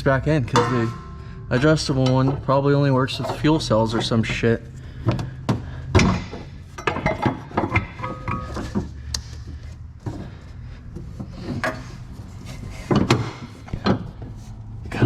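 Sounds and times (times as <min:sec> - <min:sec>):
hand tools knocking and scraping metal: 0:00.0 - 0:15.0.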